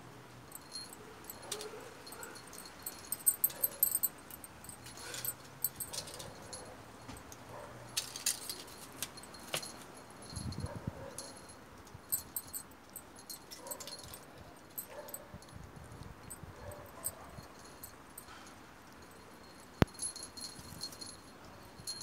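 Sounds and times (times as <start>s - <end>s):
metallic jingling: 0.4s - 22.0s.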